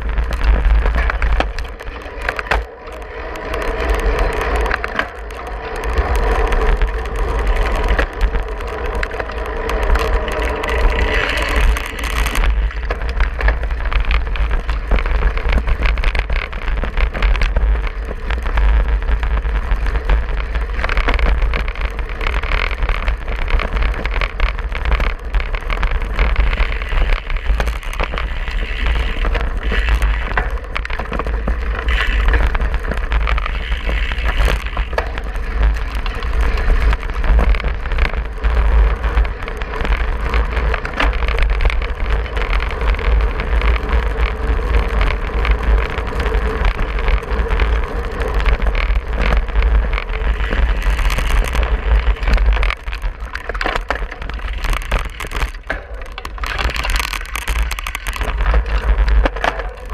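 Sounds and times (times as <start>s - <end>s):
bike clattering over rough ground: 0.0s - 59.9s
bike tyre rumble: 0.0s - 59.9s
wind buffeting microphone: 0.0s - 59.9s.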